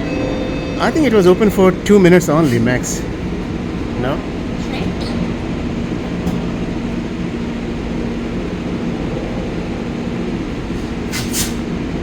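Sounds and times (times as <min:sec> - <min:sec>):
diesel locomotive droning: 0:00.0 - 0:12.0.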